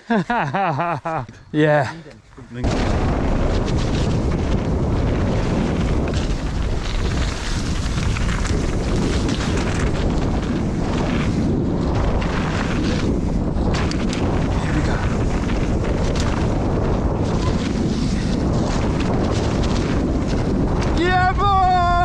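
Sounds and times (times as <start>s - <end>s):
tyres rumbling on trail: 0.0s - 22.0s
wind buffeting microphone: 2.2s - 22.0s
bike knocking and rattling: 2.8s - 22.0s.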